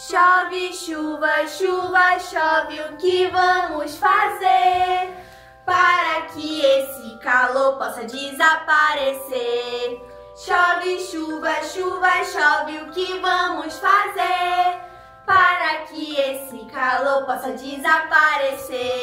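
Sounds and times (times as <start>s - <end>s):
backing music with sustained notes: 0.0s - 19.0s
women singing children's song: 0.0s - 19.0s.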